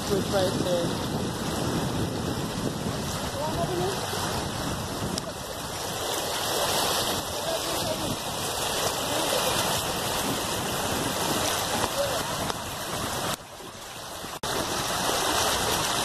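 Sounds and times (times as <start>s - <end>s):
river water rushing over gravel: 0.0s - 16.0s.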